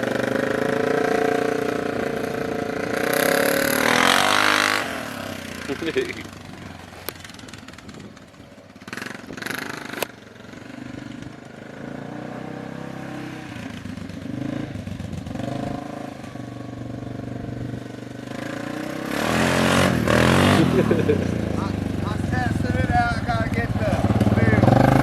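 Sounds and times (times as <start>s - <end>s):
vehicle engine running and revving: 0.0s - 25.0s.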